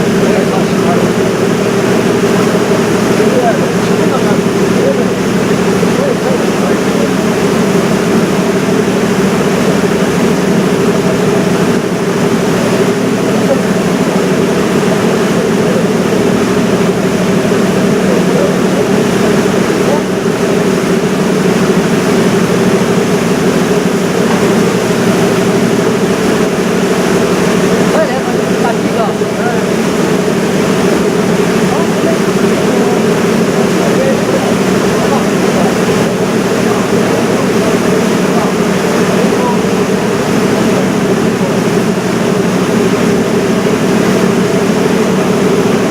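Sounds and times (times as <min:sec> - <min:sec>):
boat engine humming: 0:00.0 - 0:45.9
rushing water and air: 0:00.0 - 0:45.9
wash of noise: 0:00.0 - 0:45.9.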